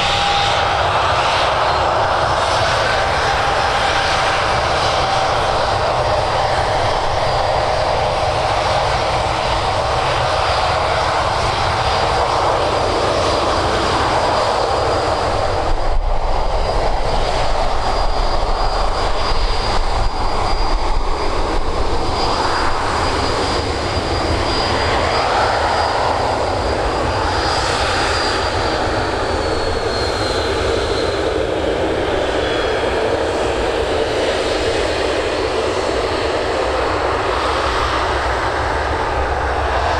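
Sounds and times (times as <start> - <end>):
jet engines at take-off power: 0.0 - 39.9.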